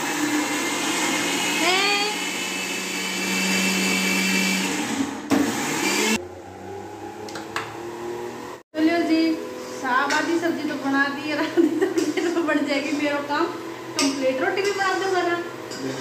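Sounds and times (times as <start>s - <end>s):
mixer grinder whirring: 0.0s - 16.0s.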